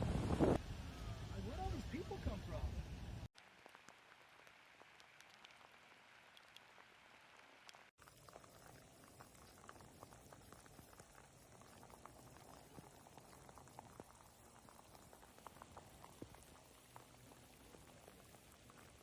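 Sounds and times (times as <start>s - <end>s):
faint rain patter: 0.6s - 19.0s.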